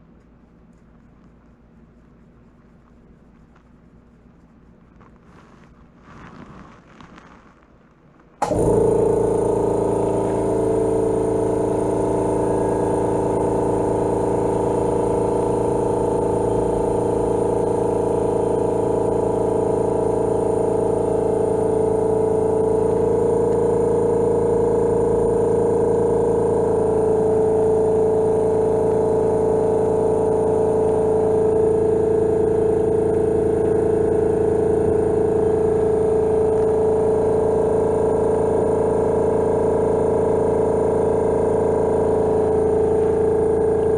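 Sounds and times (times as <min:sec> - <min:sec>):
scooter engine humming: 0:08.4 - 0:43.9.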